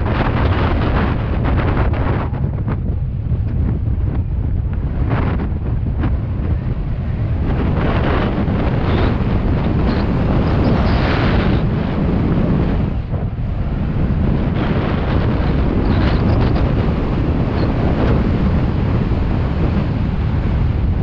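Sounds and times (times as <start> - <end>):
tyres rumbling on dirt trail: 0.0 - 21.0
wind buffeting microphone: 0.0 - 21.0.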